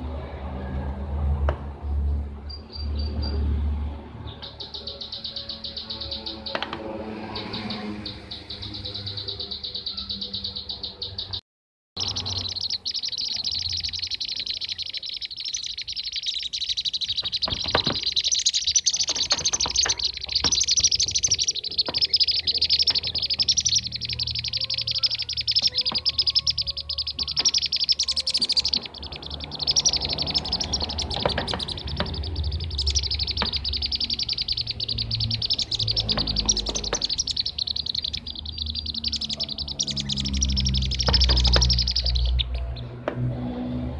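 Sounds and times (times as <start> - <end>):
flock of birds chirping: 1.8 - 11.4, 12.0 - 43.9.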